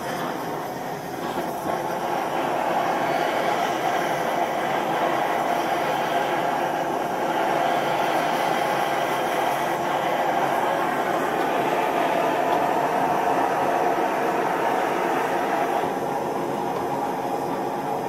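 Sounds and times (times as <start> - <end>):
gas torch burner rushing: 0.0 - 18.0.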